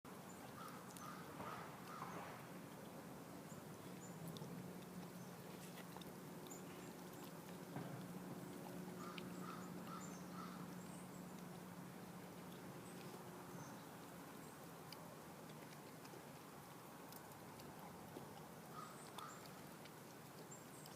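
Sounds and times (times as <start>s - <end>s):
steady low hum: 0.1s - 20.9s
puppy crunching bones: 3.8s - 20.9s.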